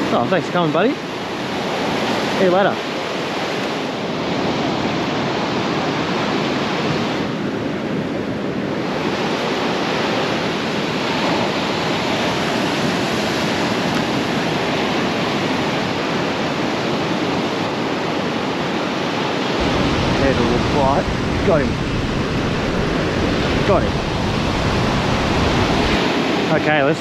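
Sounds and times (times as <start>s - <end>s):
surf breaking on beach: 0.0s - 27.0s.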